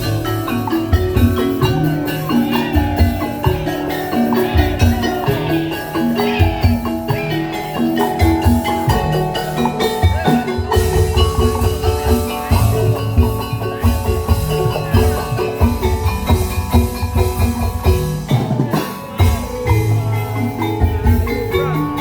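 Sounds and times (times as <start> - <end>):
repeating drum beat: 0.0 - 22.0
struck bamboo instruments tune: 0.0 - 22.0.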